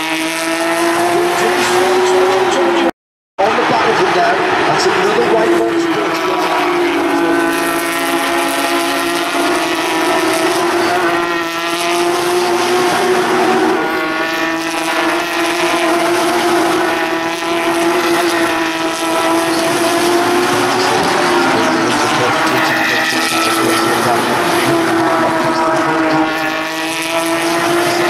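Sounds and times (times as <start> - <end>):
race car engines passing: 0.0 - 28.0.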